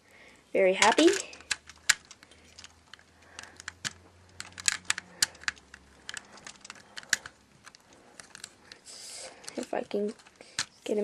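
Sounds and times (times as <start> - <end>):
plastic toy bricks clicking: 0.8 - 10.8.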